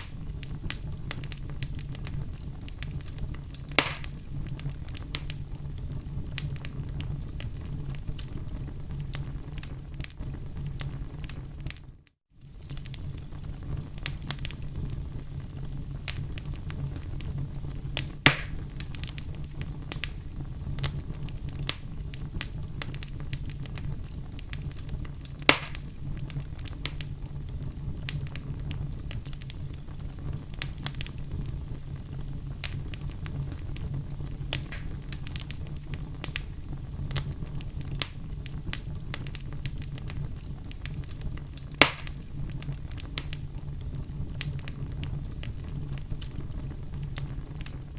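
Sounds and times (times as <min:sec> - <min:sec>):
fire popping loudly: 0:00.0 - 0:47.9
wood fire crackling: 0:00.0 - 0:47.9.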